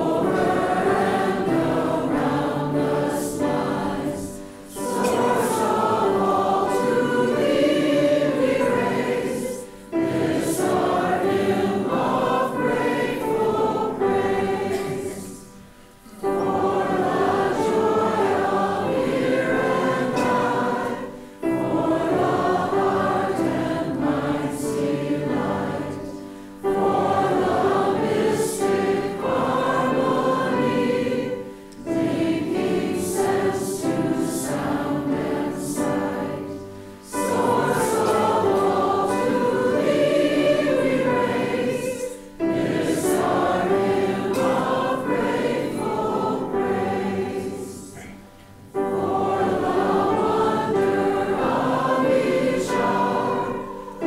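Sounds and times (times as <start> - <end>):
many voices singing a hymn: 0.0 - 54.0.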